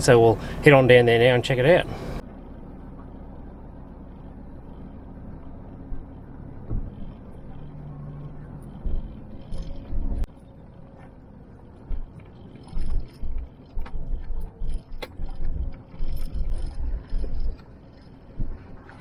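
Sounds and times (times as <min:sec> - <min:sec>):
vehicle rumbling over dirt track: 0:00.0 - 0:19.0.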